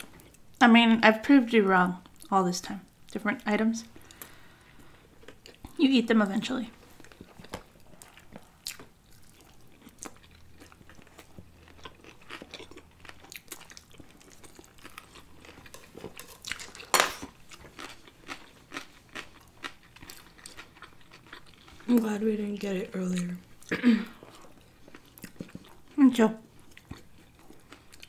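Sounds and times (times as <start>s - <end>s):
people chewing food: 2.0s - 28.0s.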